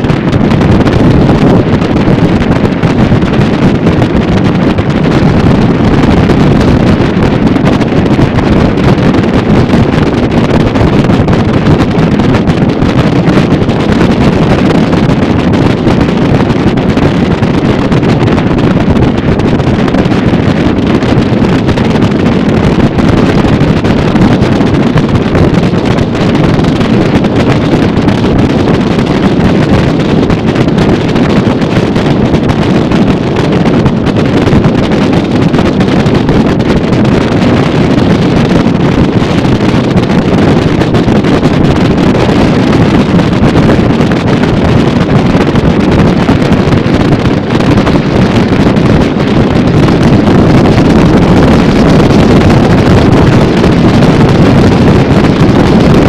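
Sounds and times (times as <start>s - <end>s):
boat running over water: 0.0s - 55.4s
wind buffeting microphone: 0.0s - 56.0s.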